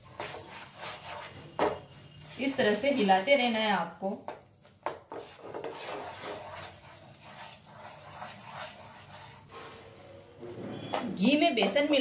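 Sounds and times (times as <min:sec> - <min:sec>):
wooden spatula scraping frying pan: 0:00.0 - 0:03.5, 0:04.8 - 0:11.7.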